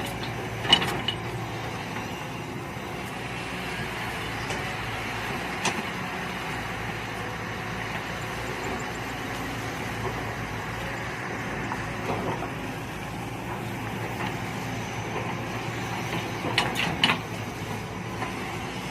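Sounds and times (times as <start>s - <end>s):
excavator engine running: 0.0s - 18.9s.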